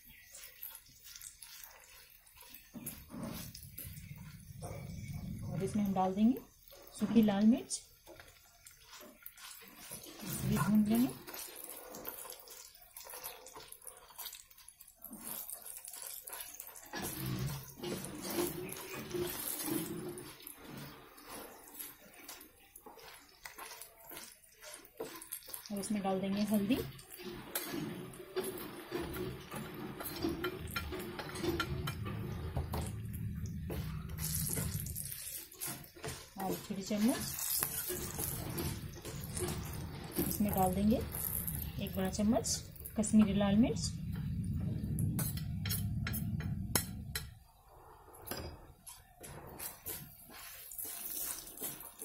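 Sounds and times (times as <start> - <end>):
faint frying hiss: 0.0 - 52.0
wooden spatula scraping pan: 0.0 - 52.0.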